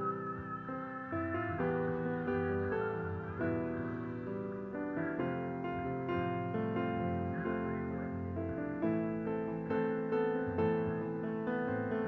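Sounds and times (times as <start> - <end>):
guitar: 0.0 - 12.0
piano: 0.0 - 12.0.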